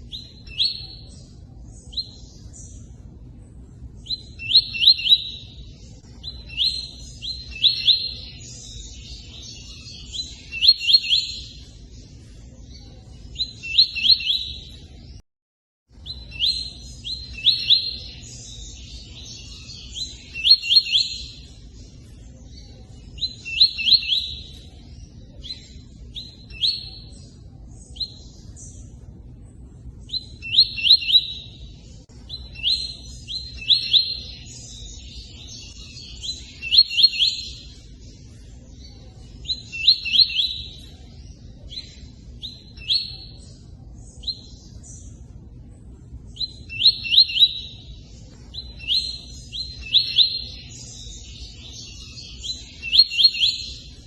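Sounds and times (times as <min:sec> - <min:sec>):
bird chirping: 0:00.0 - 0:15.2, 0:15.9 - 0:54.0.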